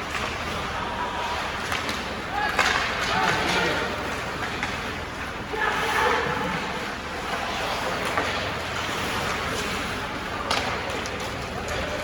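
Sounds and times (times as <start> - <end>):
ice hockey arena noise: 0.0 - 12.0.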